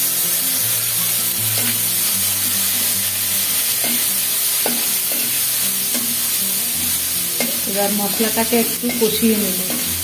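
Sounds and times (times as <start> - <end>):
spice paste sizzling in hot oil: 0.0 - 10.0.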